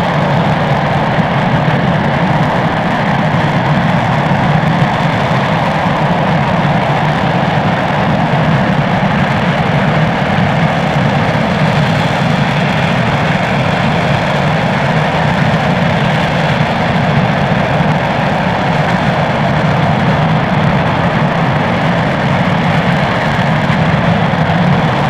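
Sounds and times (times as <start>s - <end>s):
rocket engine exhaust roar: 0.0s - 25.0s.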